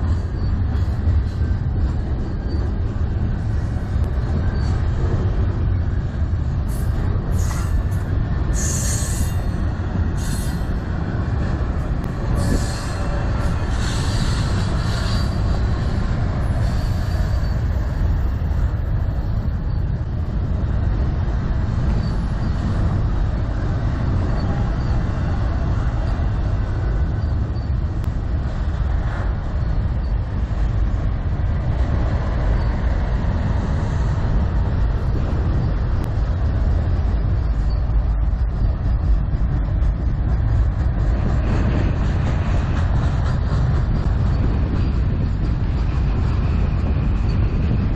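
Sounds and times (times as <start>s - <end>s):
freight train cars rolling on rails: 0.0s - 47.9s
wind buffeting microphone: 0.0s - 47.9s.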